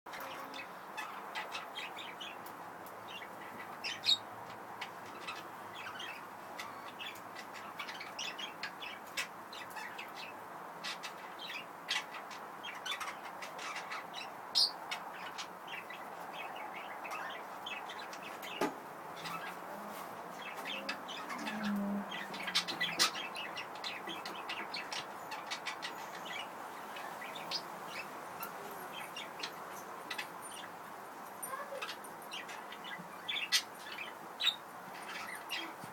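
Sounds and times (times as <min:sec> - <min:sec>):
budgerigars chirping: 0:03.0 - 0:19.6, 0:20.3 - 0:30.8, 0:31.5 - 0:35.8.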